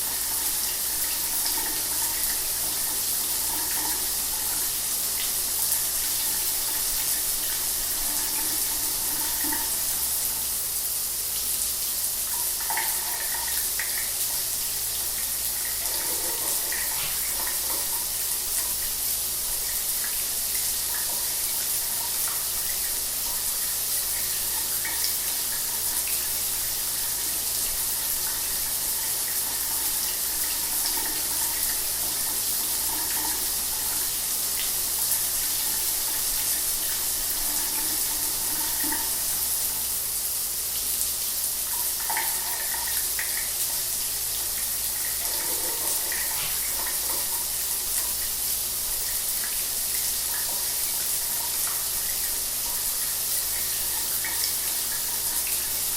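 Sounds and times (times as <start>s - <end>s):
shower water spraying: 0.0s - 55.9s.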